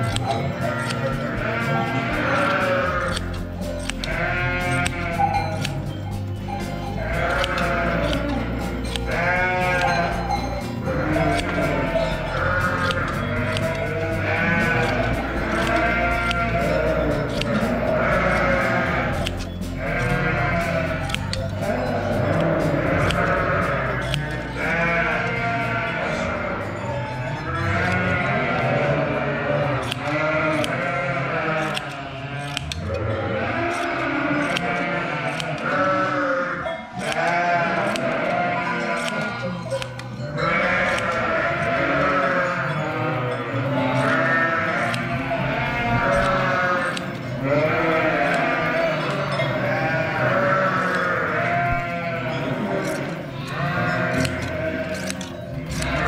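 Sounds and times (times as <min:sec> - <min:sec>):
sheep bleating: 0:00.0 - 0:56.0.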